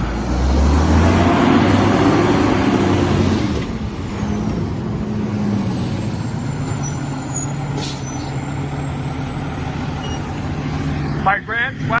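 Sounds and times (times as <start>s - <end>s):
garbage truck engine droning: 0.0s - 12.0s.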